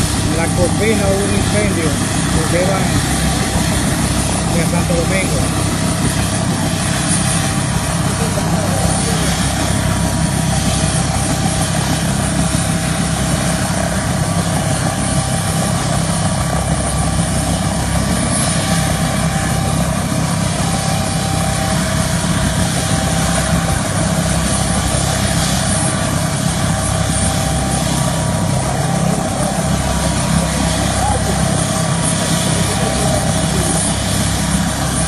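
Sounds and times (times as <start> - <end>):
helicopter turbine and rotor running: 0.0 - 35.0.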